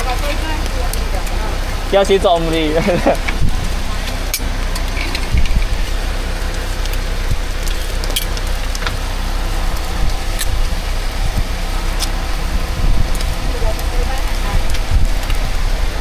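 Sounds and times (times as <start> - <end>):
low rumble of street noise: 0.0 - 16.0
small crackles: 0.0 - 16.0.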